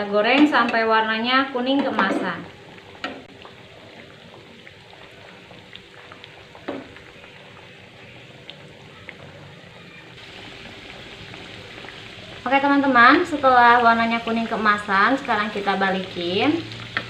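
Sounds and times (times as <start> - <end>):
food frying in hot oil: 0.0 - 17.0
oil popping: 1.8 - 17.0.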